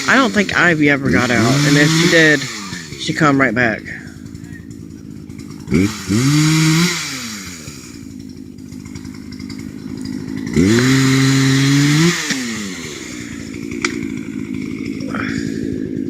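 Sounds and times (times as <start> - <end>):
chainsaw engine idling and revving: 0.0 - 16.0.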